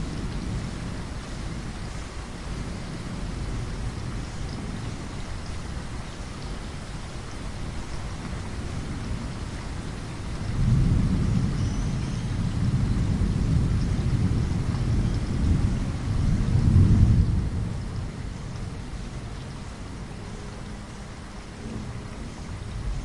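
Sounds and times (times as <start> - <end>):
low rumble of thunder: 0.0 - 23.0
rain hissing against a window: 0.0 - 23.0.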